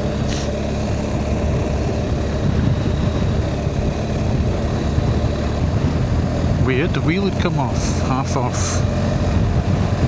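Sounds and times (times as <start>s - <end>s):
motorcycle engine running: 0.0s - 10.0s
wind noise: 0.0s - 10.0s.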